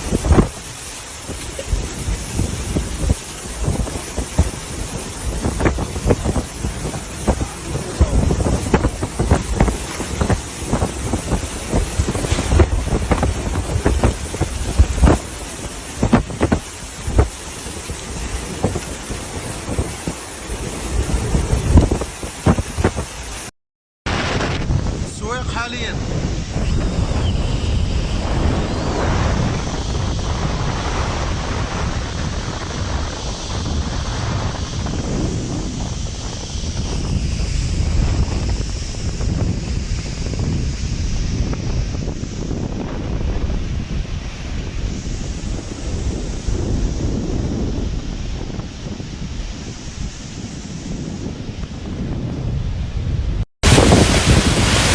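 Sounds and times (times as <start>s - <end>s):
heavy rain: 0.0s - 23.5s, 24.1s - 52.3s, 53.6s - 54.9s
strong wind rushing: 0.0s - 23.5s, 24.1s - 54.9s
wind buffeting microphone: 0.0s - 23.5s, 24.1s - 54.9s.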